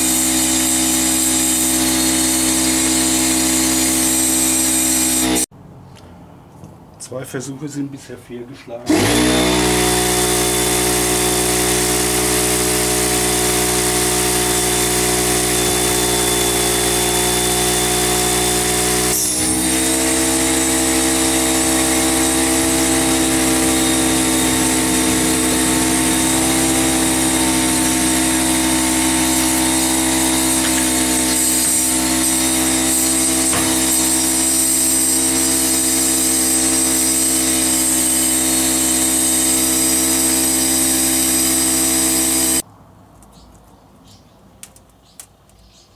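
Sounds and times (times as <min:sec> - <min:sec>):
air compressor motor humming: 0:00.0 - 0:05.5, 0:08.9 - 0:42.6.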